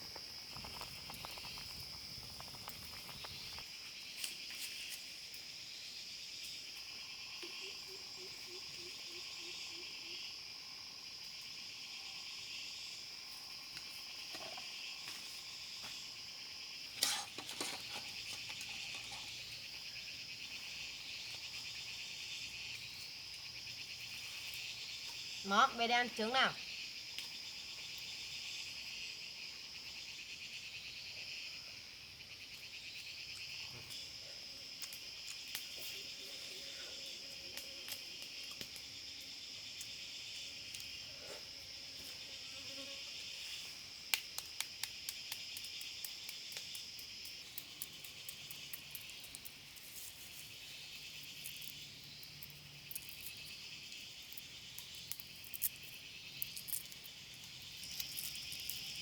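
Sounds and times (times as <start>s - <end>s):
insects chirring chorus: 0.0s - 59.0s.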